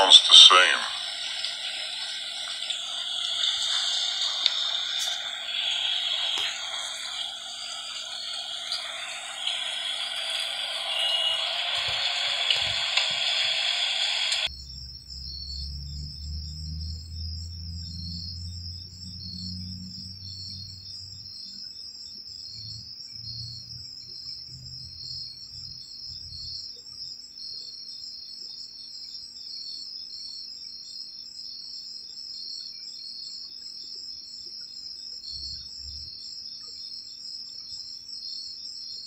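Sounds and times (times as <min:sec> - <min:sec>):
insects trilling: 0:00.0 - 0:39.0
pulsing insect trill: 0:00.0 - 0:39.0.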